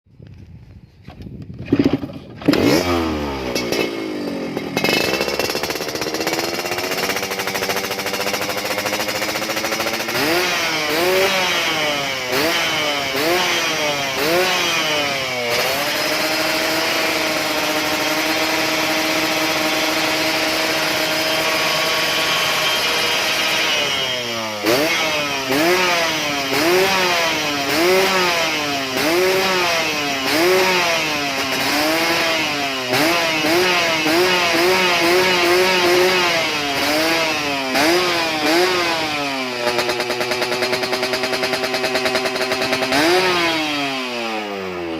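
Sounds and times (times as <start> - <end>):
motorcycle engine revving: 1.5 - 44.9.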